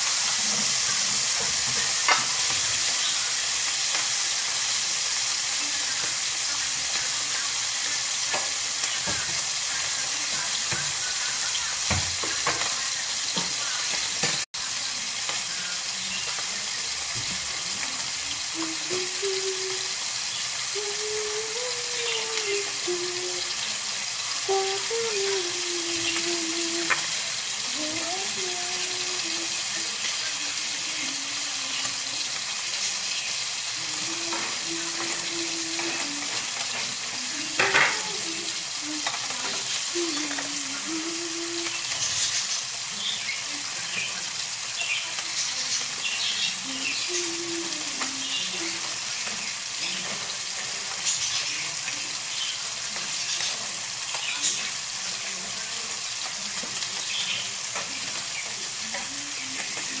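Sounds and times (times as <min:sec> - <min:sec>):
food sizzling in a frying pan: 0:00.0 - 1:00.0.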